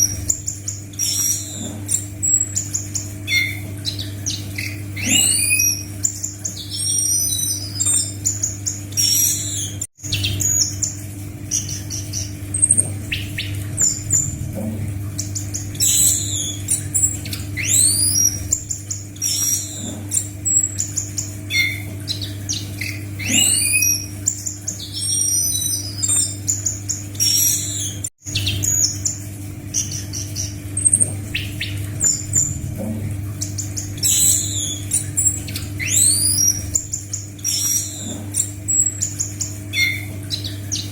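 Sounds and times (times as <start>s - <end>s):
low electrical hum: 0.0s - 40.9s.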